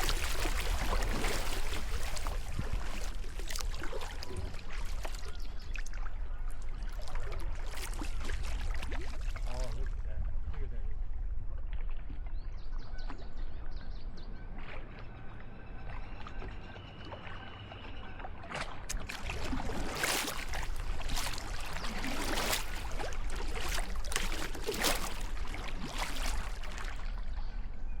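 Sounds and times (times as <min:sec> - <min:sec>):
kayak paddle splashing: 0:00.0 - 0:10.0, 0:14.6 - 0:27.9.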